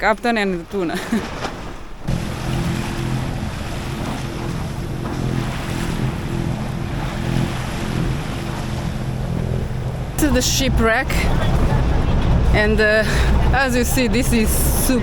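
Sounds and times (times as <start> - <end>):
waves: 0.0 - 15.0
wind: 0.0 - 15.0
boat engine running: 2.0 - 15.0.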